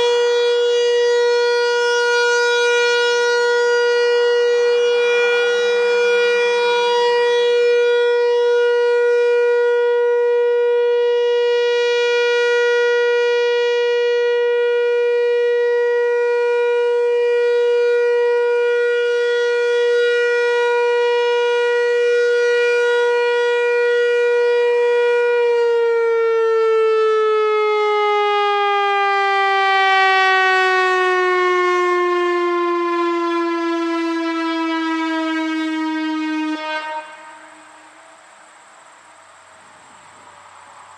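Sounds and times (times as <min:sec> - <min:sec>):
electronic warning siren: 0:00.0 - 0:38.1.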